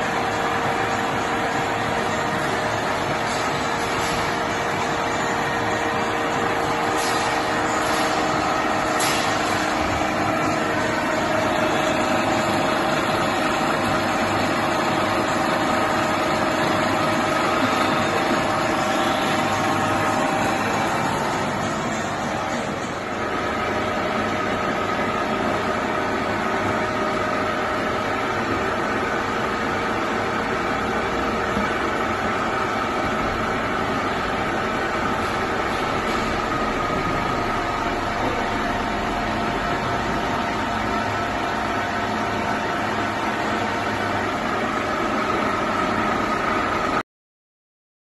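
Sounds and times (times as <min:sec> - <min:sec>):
conveyor fryer mechanical hum: 0:00.0 - 0:47.0.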